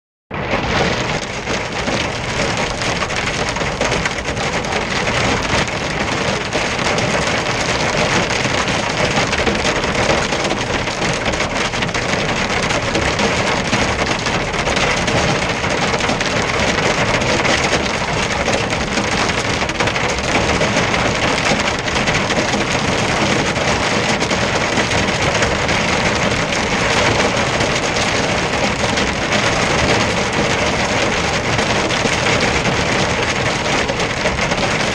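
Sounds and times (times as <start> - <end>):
hail and rain on truck cab: 0.3 - 34.9.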